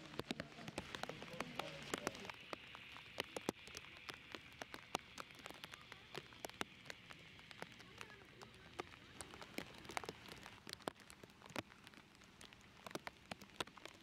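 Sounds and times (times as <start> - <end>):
rain hiss: 0.0 - 14.0
raindrops tapping: 0.0 - 14.0.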